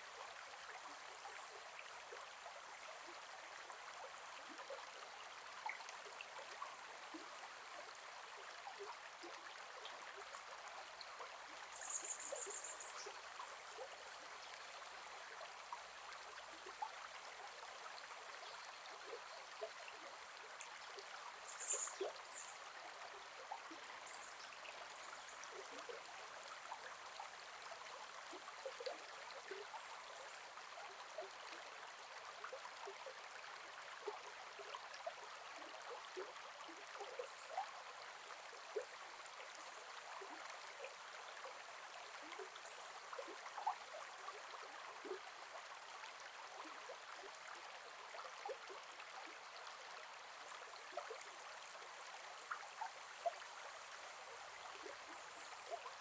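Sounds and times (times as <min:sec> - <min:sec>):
river flowing and gurgling: 0:00.0 - 0:56.0.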